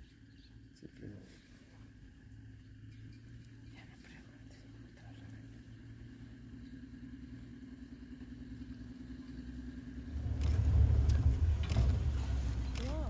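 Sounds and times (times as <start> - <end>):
loud low engine rumble: 0.0 - 13.0
vehicle engine humming: 0.0 - 13.0.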